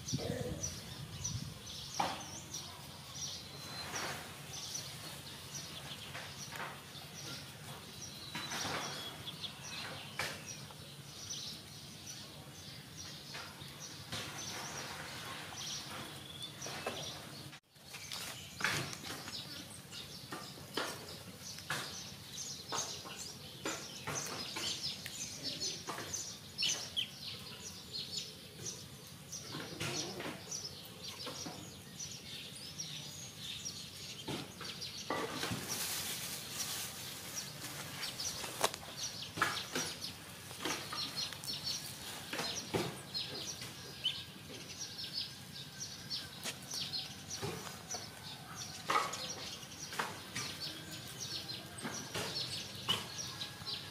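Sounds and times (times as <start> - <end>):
small birds chirping: 0.0 - 53.9.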